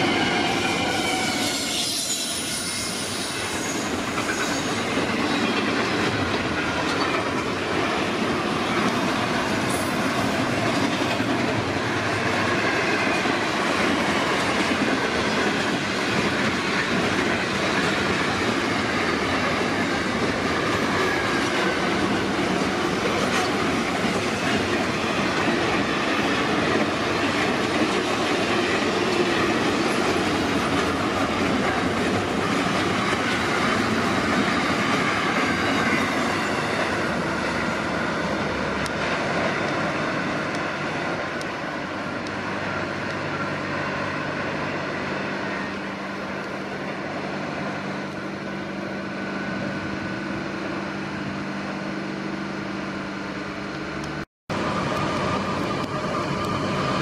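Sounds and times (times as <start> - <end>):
steel train wheels clattering on rail: 0.0 - 49.7, 54.0 - 57.0.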